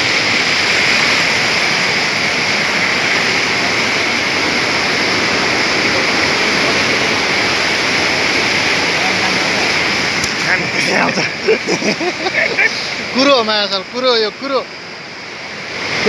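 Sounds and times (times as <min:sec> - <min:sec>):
stream rushing over boulders: 0:00.0 - 0:16.0.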